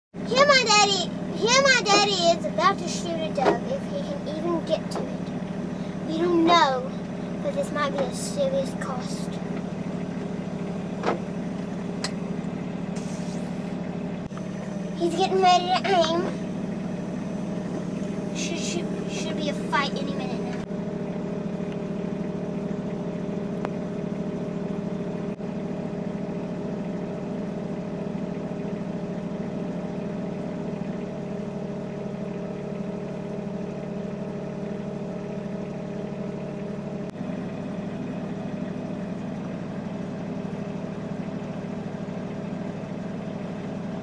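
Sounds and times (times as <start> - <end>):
vehicle engine idling: 0.2 - 44.0.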